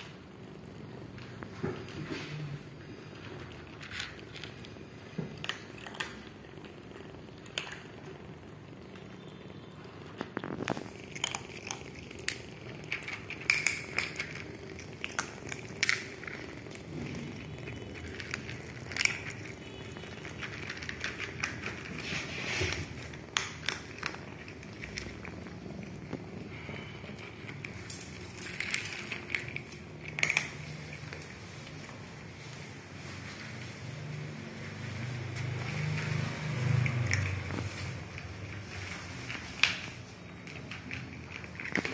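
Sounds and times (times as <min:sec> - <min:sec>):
kittens crunching dry kibble: 0:00.0 - 0:41.9.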